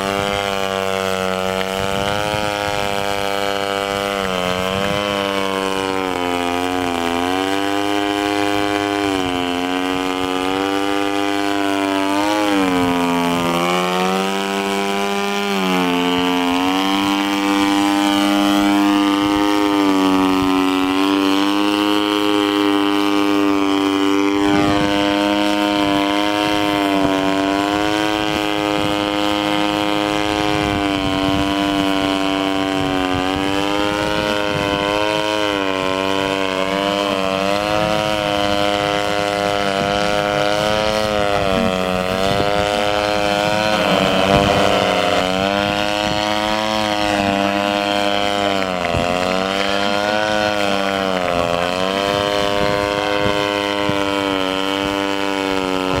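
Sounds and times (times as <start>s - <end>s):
model airplane engine droning: 0.0s - 56.0s.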